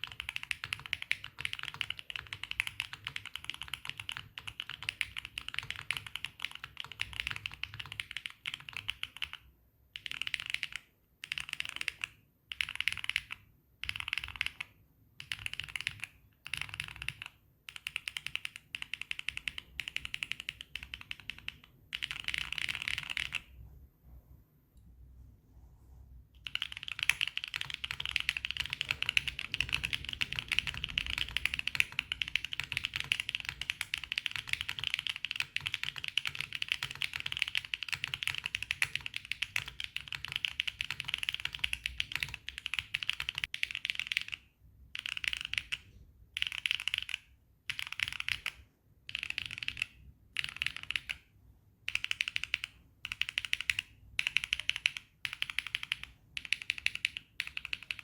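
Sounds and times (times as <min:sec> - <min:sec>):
mechanical keyboard typing: 0:00.0 - 0:23.6, 0:26.4 - 0:58.0.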